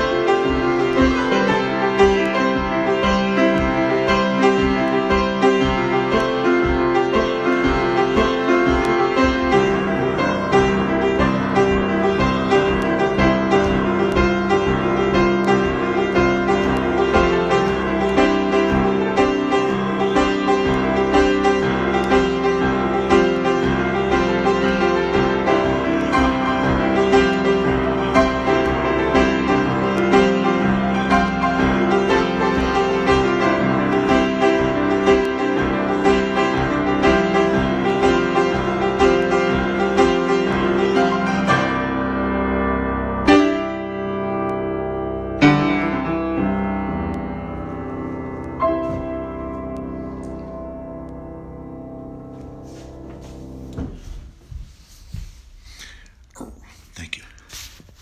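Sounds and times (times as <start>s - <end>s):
piano improvisation: 0.0s - 58.0s.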